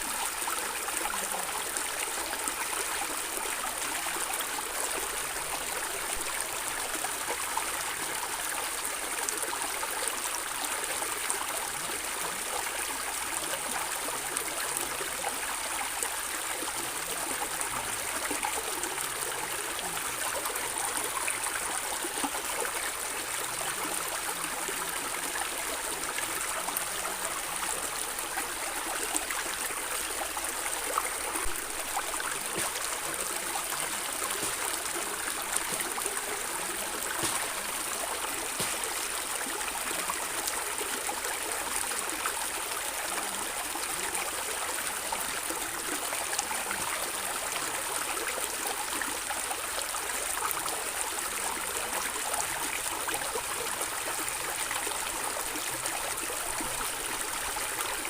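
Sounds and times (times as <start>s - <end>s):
stream gurgling and splashing: 0.0s - 58.0s.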